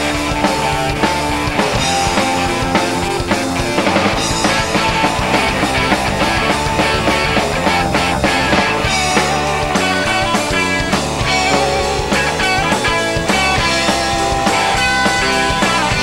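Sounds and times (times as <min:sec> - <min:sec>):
electric guitars: 0:00.0 - 0:16.0
steady drum beat: 0:00.0 - 0:16.0.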